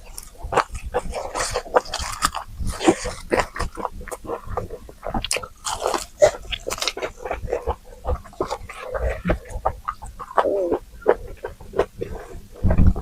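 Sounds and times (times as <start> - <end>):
biting and chewing: 0.0 - 13.0
wet mouth clicks: 0.0 - 13.0.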